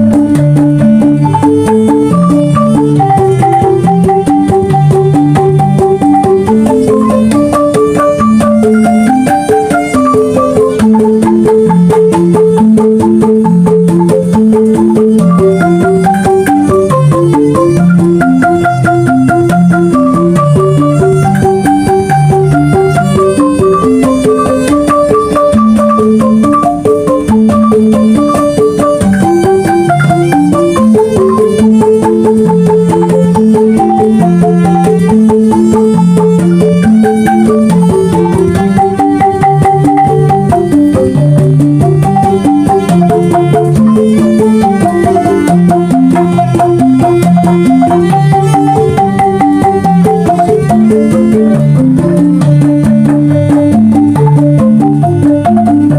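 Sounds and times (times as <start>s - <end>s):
bamboo angklung melody: 0.0s - 55.9s
drum and percussion strokes: 0.0s - 55.9s.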